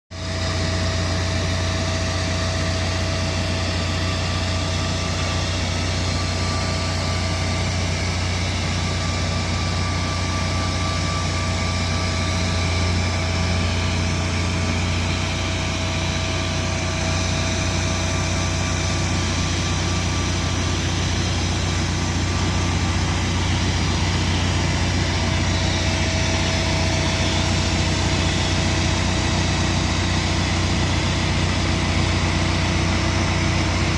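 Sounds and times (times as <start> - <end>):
jet turbines running: 0.1 - 33.9.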